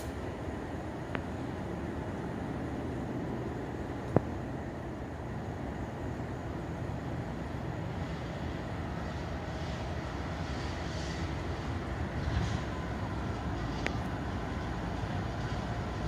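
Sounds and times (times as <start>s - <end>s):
freight train rumbling: 0.0s - 16.0s.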